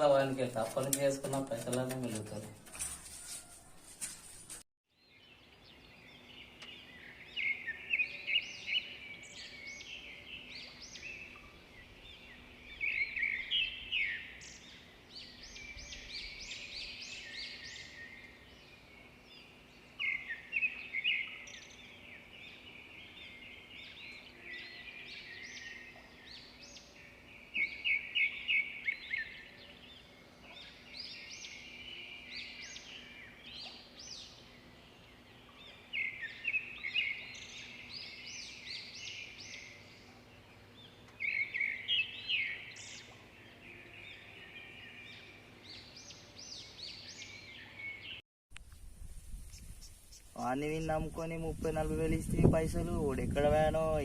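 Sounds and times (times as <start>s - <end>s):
birds chirping: 0.0s - 3.6s, 4.4s - 48.2s, 49.3s - 54.0s.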